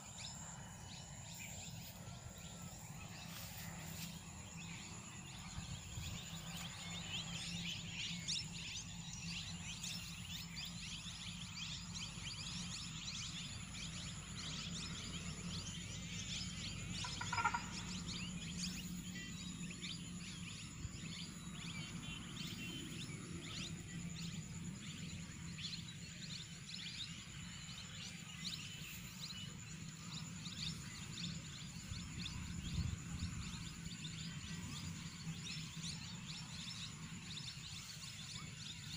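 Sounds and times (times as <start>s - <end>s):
high insect drone: 0.0s - 38.9s
low steady rumble: 0.0s - 38.9s
small birds chirping: 0.0s - 38.9s.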